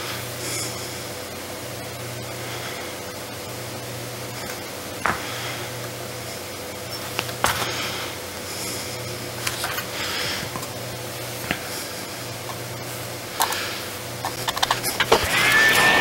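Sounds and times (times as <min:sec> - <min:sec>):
low equipment hum: 0:00.0 - 0:16.0.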